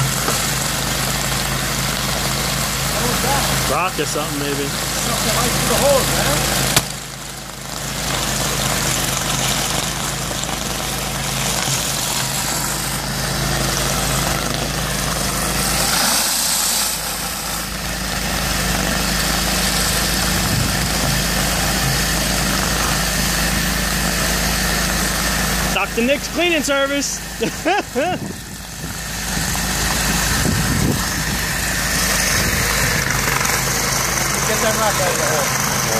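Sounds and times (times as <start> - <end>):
high-pressure water hiss: 0.0 - 35.9
pressure washer engine drone: 0.0 - 35.9.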